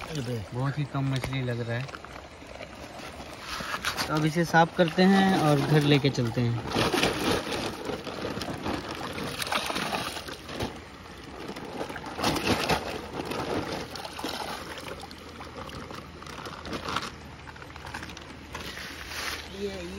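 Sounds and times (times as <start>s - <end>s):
water sloshing and splashing: 0.0s - 19.9s.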